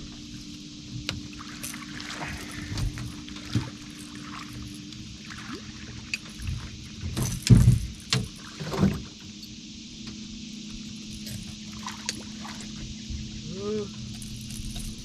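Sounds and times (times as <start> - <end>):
low hum: 0.0 - 15.0
thumps and rattles on a boat: 0.0 - 15.0.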